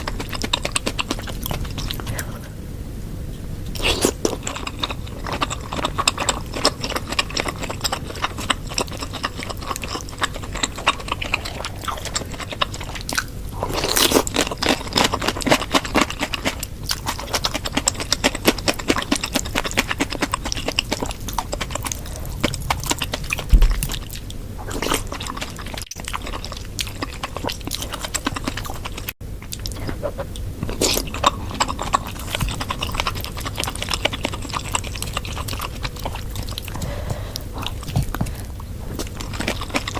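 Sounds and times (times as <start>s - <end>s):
chewing and mouth smacking: 0.0s - 2.4s, 3.7s - 39.9s.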